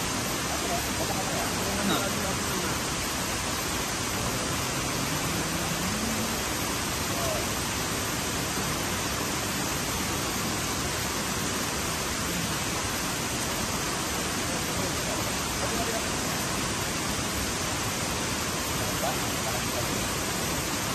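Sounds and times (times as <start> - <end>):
river rapids rushing: 0.0 - 20.9.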